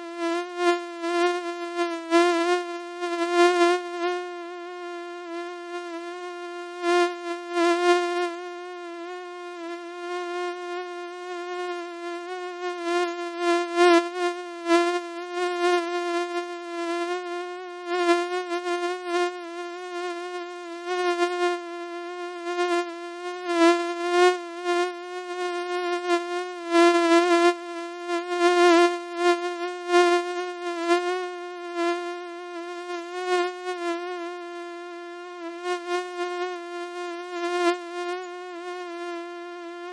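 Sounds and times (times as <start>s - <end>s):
mosquito buzzing whine: 0.0s - 39.9s.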